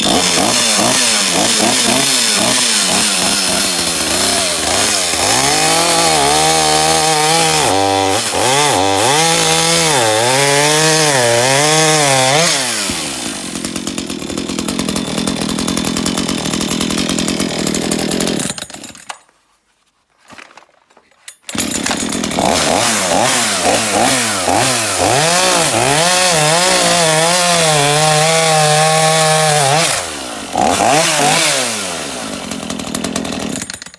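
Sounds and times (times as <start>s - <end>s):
chainsaw revving: 0.0s - 19.0s, 21.5s - 33.9s
chainsaw cutting wood: 0.0s - 19.3s, 21.4s - 33.9s.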